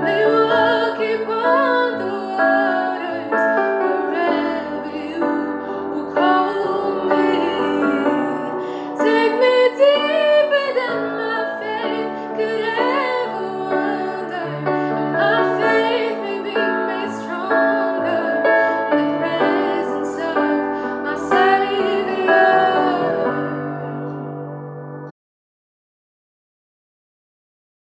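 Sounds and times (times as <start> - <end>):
woman singing: 0.0 - 24.4
piano: 0.0 - 25.2.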